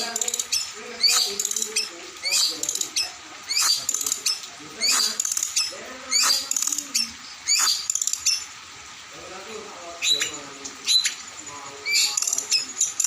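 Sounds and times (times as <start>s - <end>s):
chattering bird trills: 0.0s - 8.7s, 9.9s - 13.0s.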